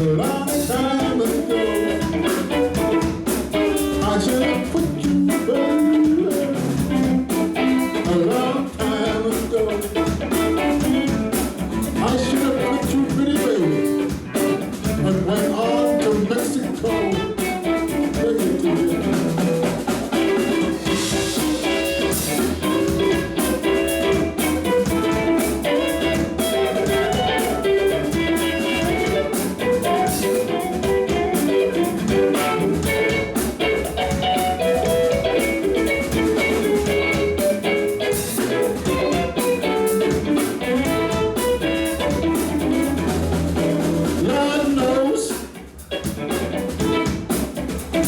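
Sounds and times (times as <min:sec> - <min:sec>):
bass and drum kit: 0:00.0 - 0:48.0
electric guitar: 0:00.0 - 0:48.0.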